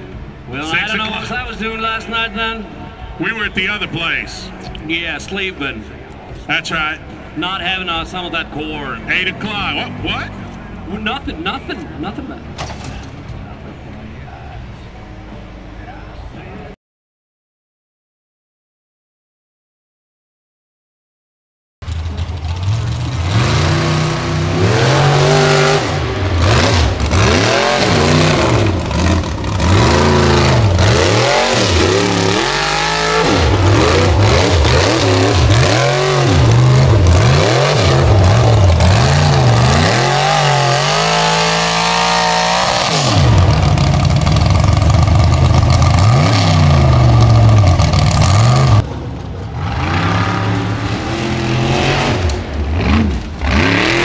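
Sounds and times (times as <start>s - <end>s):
buggy engine revving: 0.0s - 16.3s, 21.8s - 54.0s.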